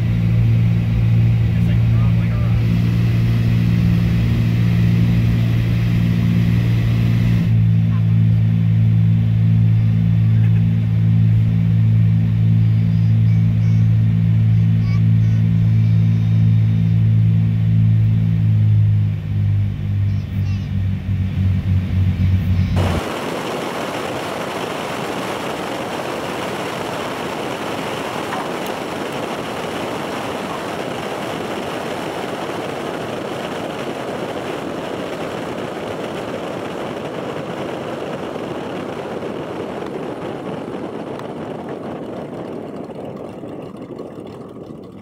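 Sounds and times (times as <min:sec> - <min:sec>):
airplane rolling on runway: 0:00.0 - 0:45.0.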